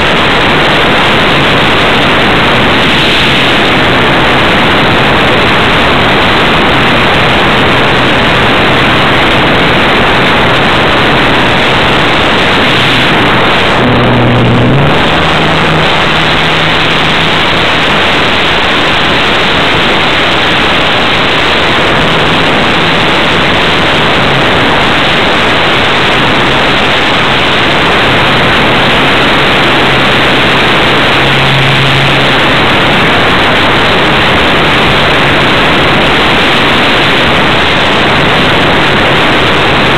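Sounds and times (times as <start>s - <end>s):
loud rushing air noise: 0.0s - 39.9s
low motor hum: 0.0s - 39.9s.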